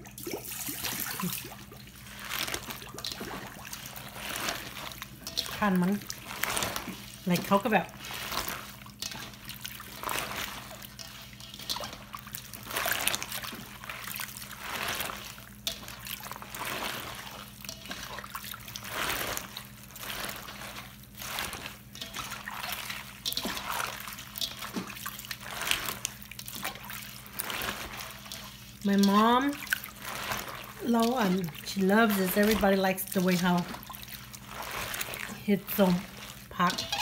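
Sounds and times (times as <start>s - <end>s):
water splashing into bowl: 0.0s - 37.0s.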